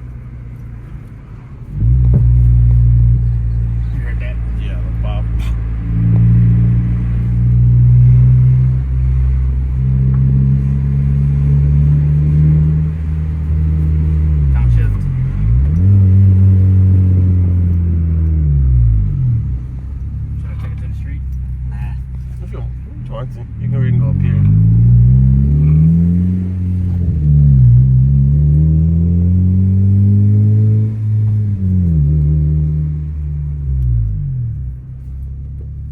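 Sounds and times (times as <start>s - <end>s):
car engine droning while driving: 0.0s - 35.9s.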